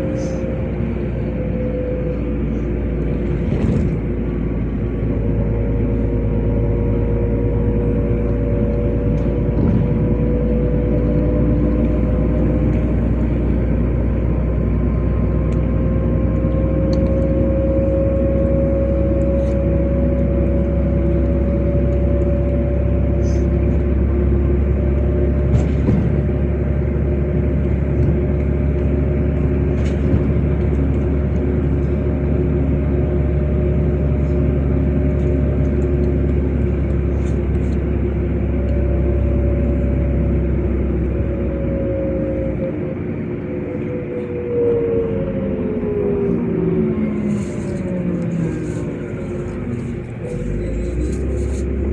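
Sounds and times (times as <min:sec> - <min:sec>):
bus engine and road rumble: 0:00.0 - 0:51.9
drivetrain whine: 0:00.0 - 0:51.9.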